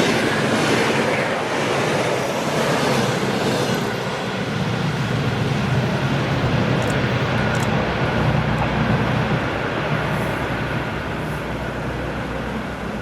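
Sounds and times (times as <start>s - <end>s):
electric train rumbling on track: 0.0s - 13.0s.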